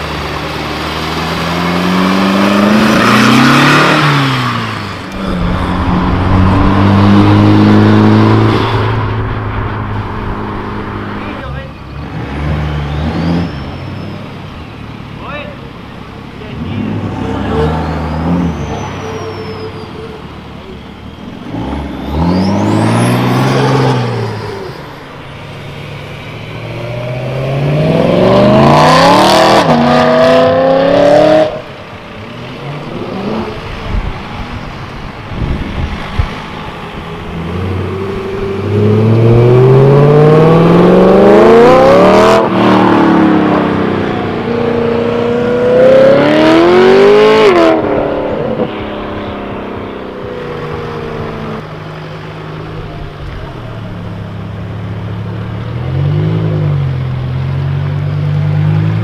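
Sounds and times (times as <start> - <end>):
cars accelerating hard: 0.0 - 59.0.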